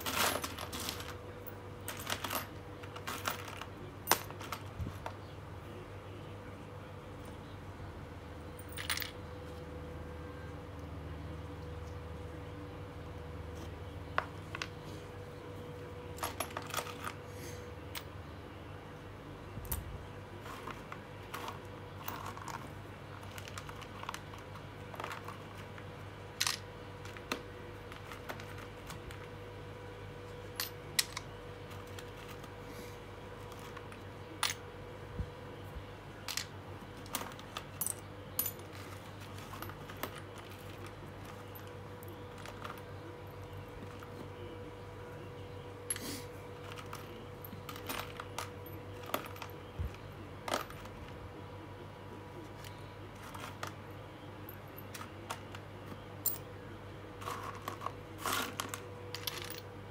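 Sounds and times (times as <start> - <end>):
steady background hum: 0.0 - 59.9.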